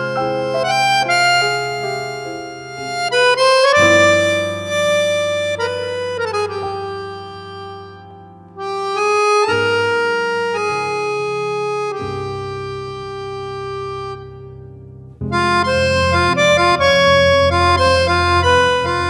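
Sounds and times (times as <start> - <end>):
jazz accordion playing: 0.0 - 19.0
sustained bass notes: 0.0 - 19.0.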